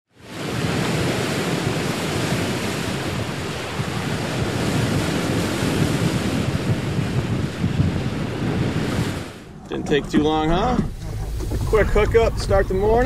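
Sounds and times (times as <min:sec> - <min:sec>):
ocean waves: 0:00.1 - 0:13.0
wind: 0:00.1 - 0:13.0
wind buffeting microphone: 0:00.2 - 0:13.0.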